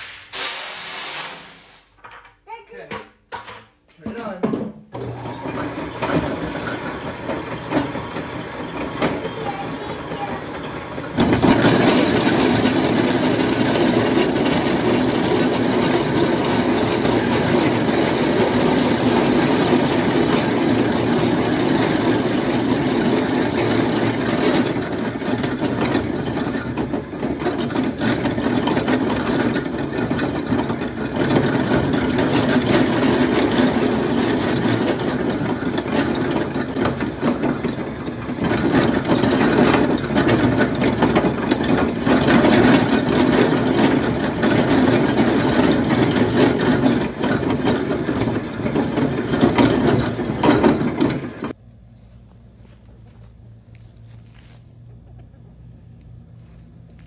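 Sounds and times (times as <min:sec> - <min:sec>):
grist mill grinding corn: 0:05.0 - 0:52.1.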